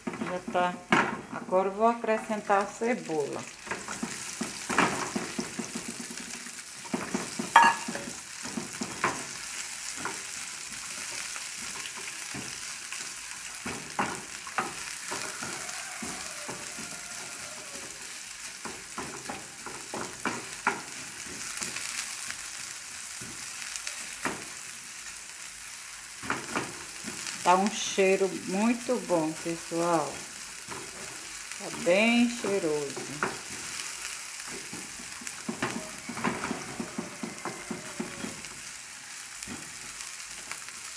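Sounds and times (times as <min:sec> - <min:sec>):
onions sizzling in oil: 0:00.0 - 0:40.9
wooden spoon scraping a pan: 0:03.5 - 0:24.6, 0:28.5 - 0:40.7.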